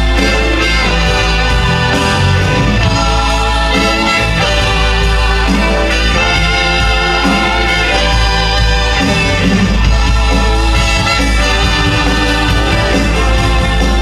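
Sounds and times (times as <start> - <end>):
live band sustained chords: 0.0 - 14.0.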